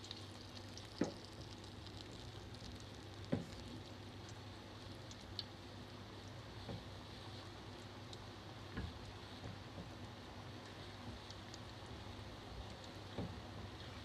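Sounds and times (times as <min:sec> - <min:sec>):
oil sizzling while deep-frying: 0:00.0 - 0:14.0.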